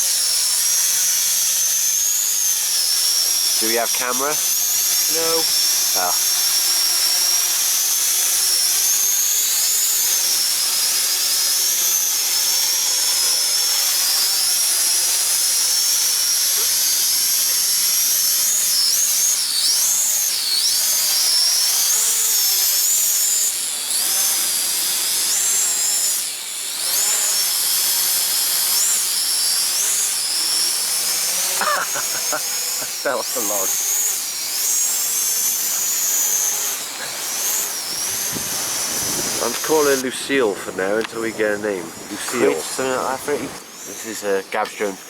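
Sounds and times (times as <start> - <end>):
drone propellers whining: 0.0 - 12.9, 16.3 - 45.0.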